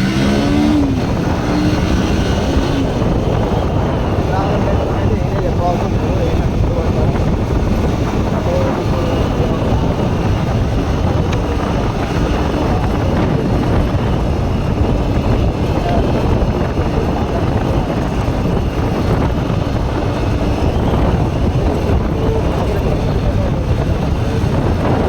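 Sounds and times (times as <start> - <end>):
motorcycle engine running: 0.0 - 25.0
wind over microphone: 0.0 - 25.0.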